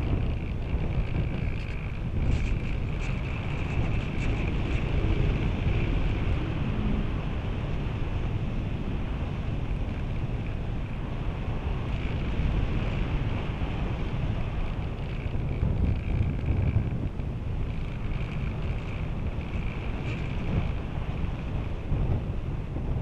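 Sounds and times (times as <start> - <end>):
wind rush buffeting a camera: 0.0 - 23.0.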